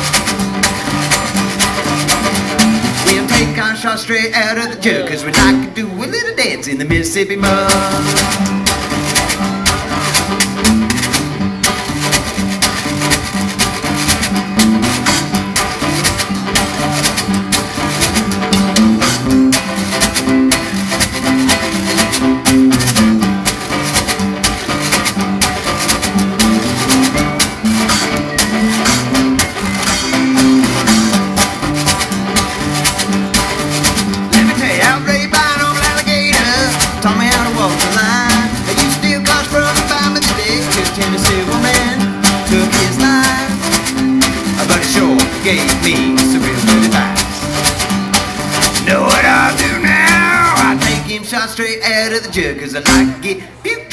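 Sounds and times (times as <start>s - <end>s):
washboard scraping beat: 0.0s - 3.7s, 6.9s - 51.1s
banjo and acoustic guitars: 0.0s - 53.9s.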